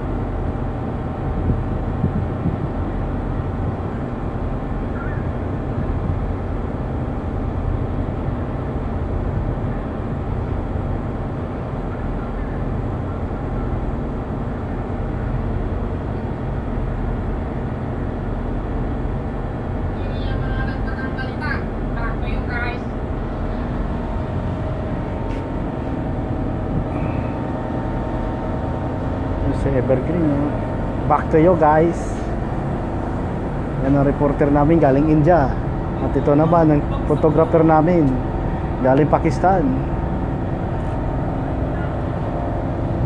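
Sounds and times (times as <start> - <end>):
faint steady hum: 0.0 - 43.0
low rumble of ship machinery: 0.0 - 43.0.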